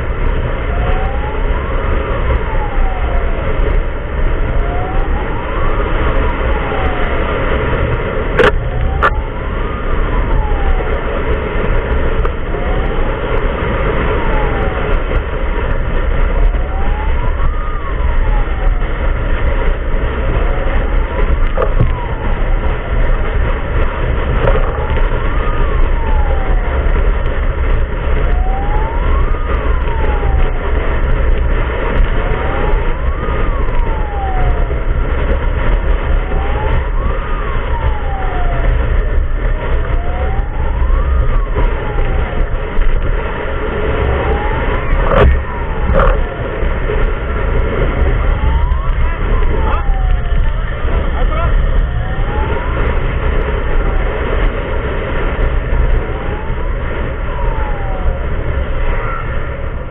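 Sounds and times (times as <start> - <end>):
road and wind rumble: 0.0 - 59.9
siren wailing: 0.0 - 59.9.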